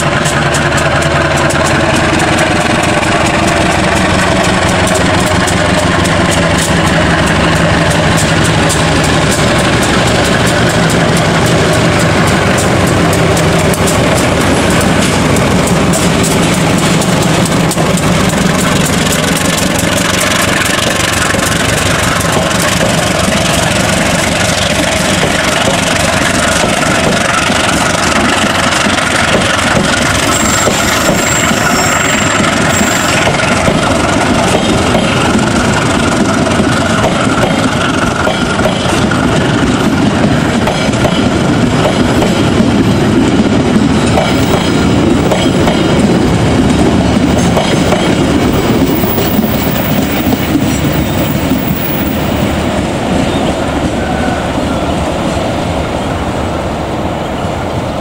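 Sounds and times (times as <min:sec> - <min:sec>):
coaches rumbling and clattering: 0:00.0 - 0:54.0
locomotive engine under load: 0:00.0 - 0:58.0.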